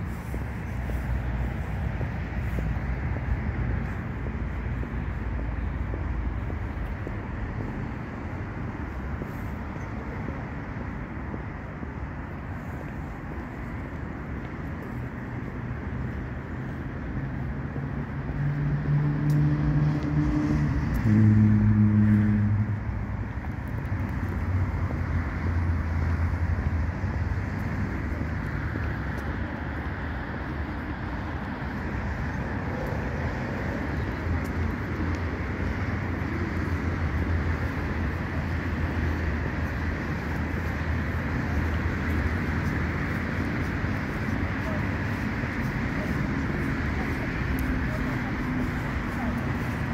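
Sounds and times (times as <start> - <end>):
low traffic hum: 0.0 - 49.9.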